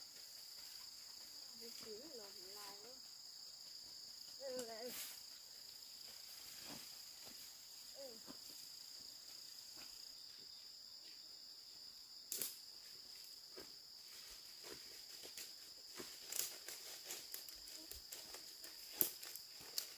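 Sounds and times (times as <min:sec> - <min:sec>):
insects chirring: 0:00.0 - 0:19.9.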